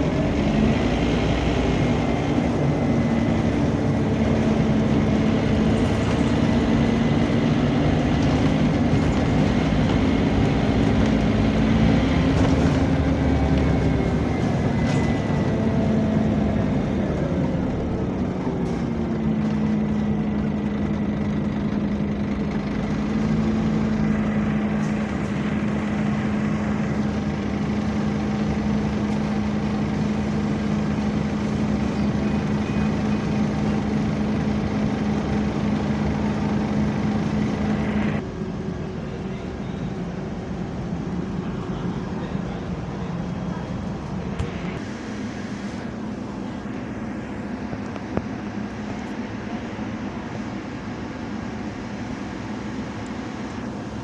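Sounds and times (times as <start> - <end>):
bus engine and cooling fan hum: 0.0 - 54.0
road noise: 0.0 - 54.0.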